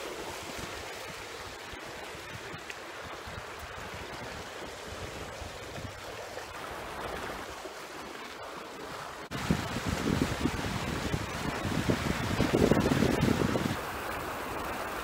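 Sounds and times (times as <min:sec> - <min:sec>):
sea water rushing: 0:00.0 - 0:15.0
wind: 0:00.0 - 0:15.0.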